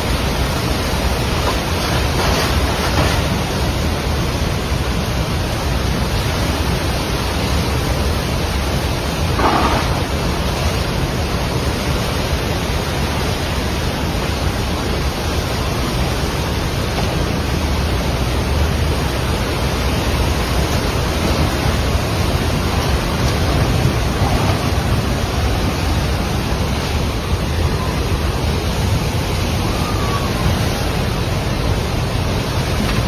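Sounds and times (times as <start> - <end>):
river rushing in flood: 0.0 - 33.0.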